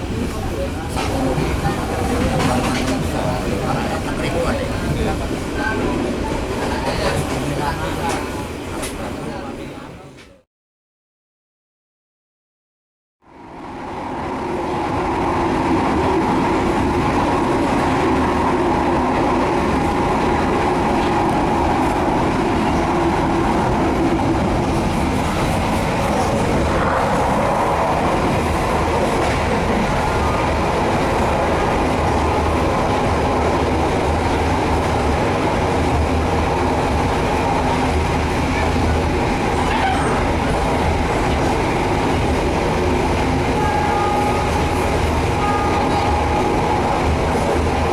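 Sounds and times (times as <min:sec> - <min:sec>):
moving train running noise: 0:00.0 - 0:10.4, 0:13.3 - 0:47.9.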